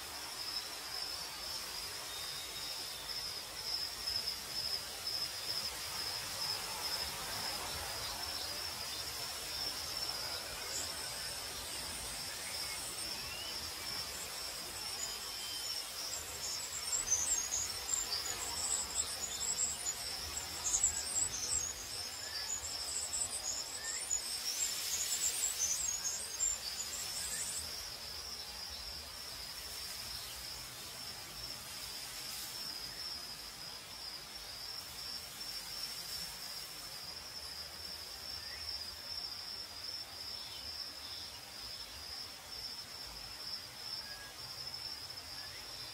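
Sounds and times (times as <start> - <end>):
crickets trilling: 0.0 - 45.9
soft hiss: 0.0 - 45.9.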